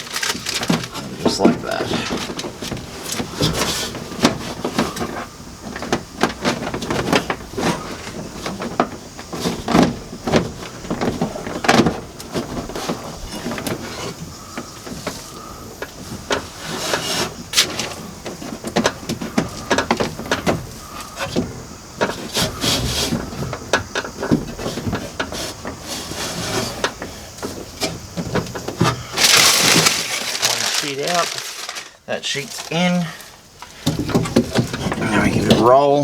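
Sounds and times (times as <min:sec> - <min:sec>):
plastic backing peeling: 0:00.0 - 0:35.7
sheet rustling and crinkling: 0:00.0 - 0:35.7.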